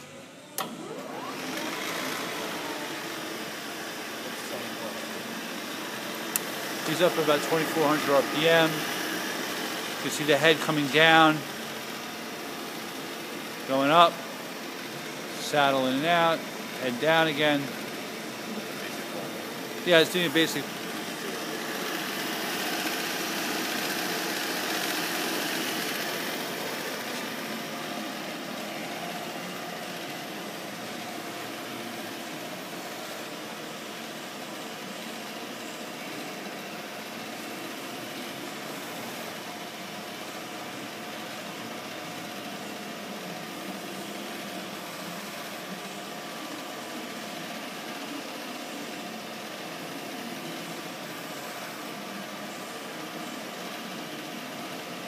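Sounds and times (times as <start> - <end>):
milling machine running: 0.0 - 55.0.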